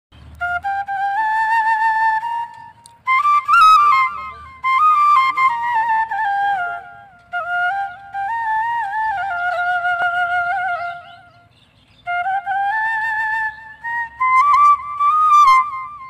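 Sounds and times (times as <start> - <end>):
bamboo flute folk melody: 0.2 - 16.0.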